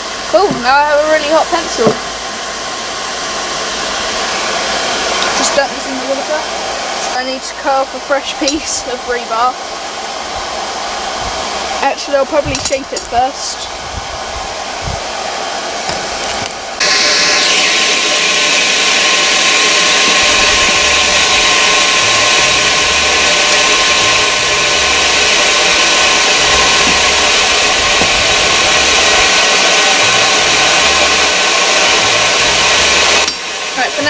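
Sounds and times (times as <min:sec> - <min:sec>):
electric power tool running: 0:00.0 - 0:34.0.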